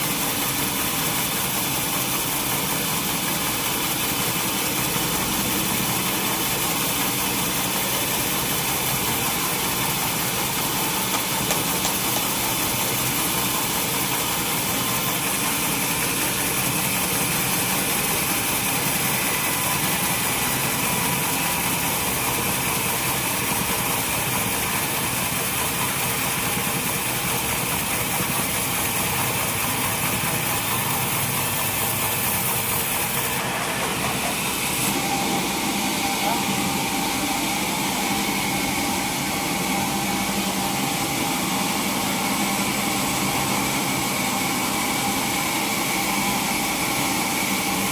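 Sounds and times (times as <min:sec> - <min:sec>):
sawmill machinery drone: 0:00.0 - 0:47.9.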